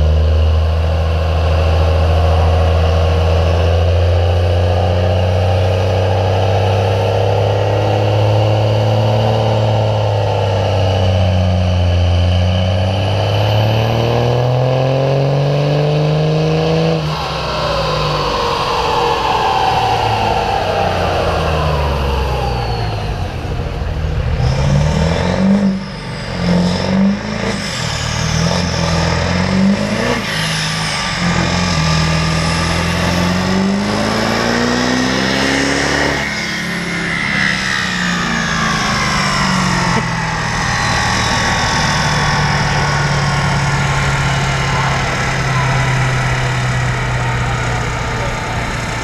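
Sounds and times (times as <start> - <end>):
diesel engine revving under load: 0.0 - 49.0.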